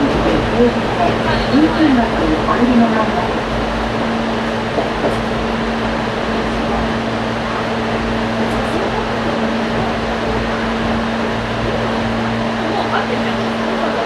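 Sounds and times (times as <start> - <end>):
constant low hum: 0.0 - 14.0
train wheels rumbling: 0.0 - 14.0.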